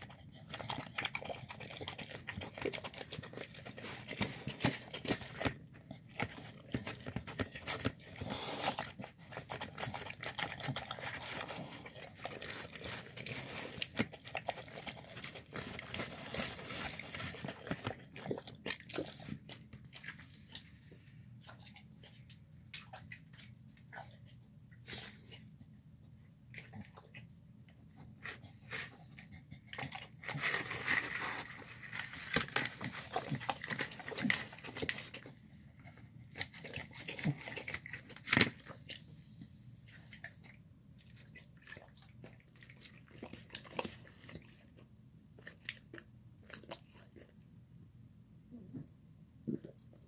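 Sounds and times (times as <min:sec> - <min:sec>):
dog chewing and smacking: 0:00.0 - 0:25.6, 0:26.4 - 0:39.2, 0:39.8 - 0:47.7.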